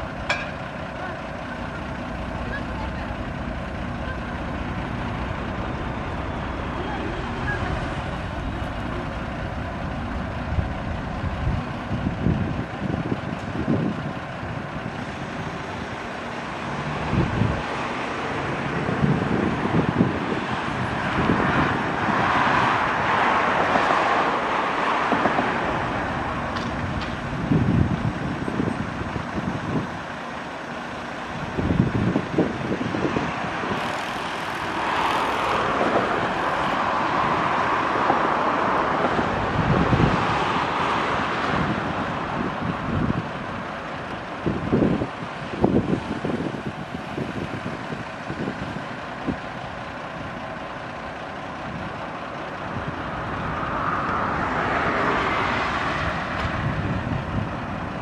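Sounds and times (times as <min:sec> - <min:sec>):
background traffic noise: 0:00.0 - 0:58.0
vehicles passing by: 0:00.0 - 0:58.0
wind buffeting microphone: 0:03.2 - 0:58.0.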